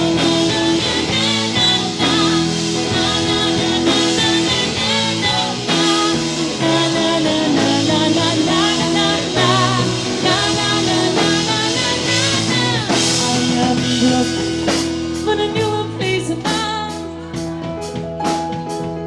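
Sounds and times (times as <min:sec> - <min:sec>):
rock band music with guitar: 0:00.0 - 0:19.0.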